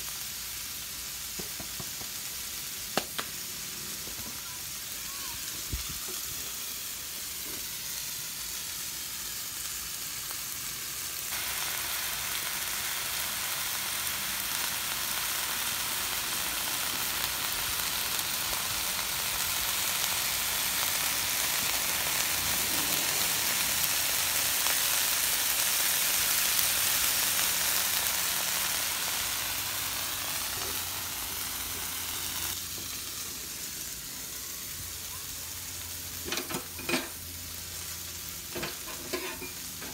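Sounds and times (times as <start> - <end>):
ground beef sizzling on a griddle: 0.0 - 39.9.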